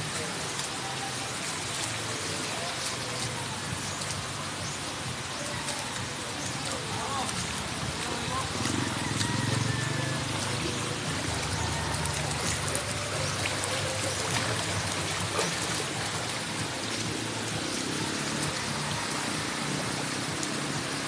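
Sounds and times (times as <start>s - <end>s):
water flowing across concrete: 0.0s - 21.0s.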